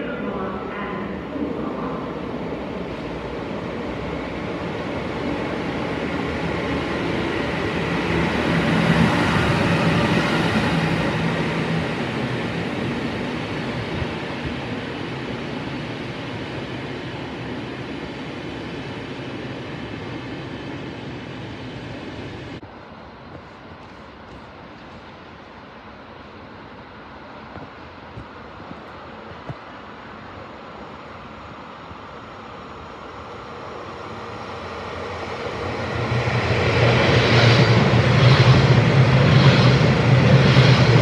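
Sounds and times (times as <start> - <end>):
low steady locomotive hum: 0.0 - 41.0
train wheels rumbling on rail: 1.6 - 30.6, 33.4 - 41.0.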